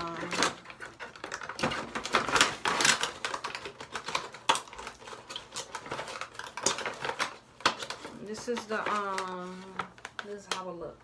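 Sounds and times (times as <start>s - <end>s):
hands handling packaging: 0.0s - 10.9s.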